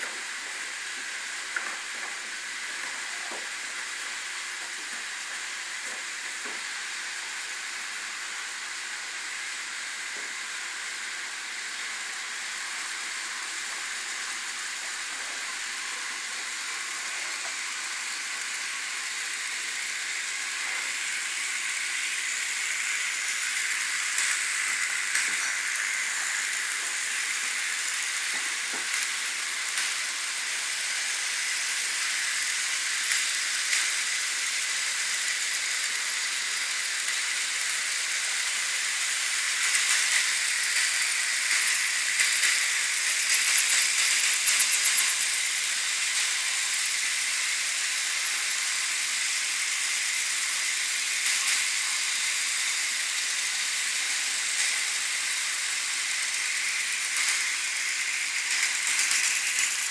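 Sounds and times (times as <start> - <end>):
model train whirring hiss: 0.0 - 59.9.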